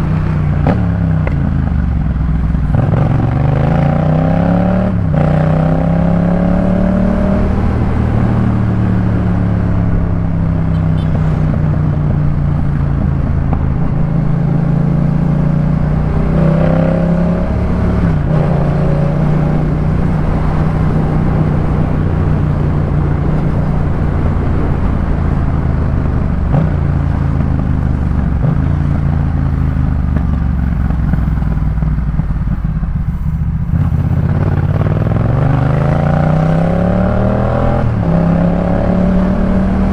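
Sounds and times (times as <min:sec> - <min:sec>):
motorcycle engine running: 0:00.0 - 0:37.1.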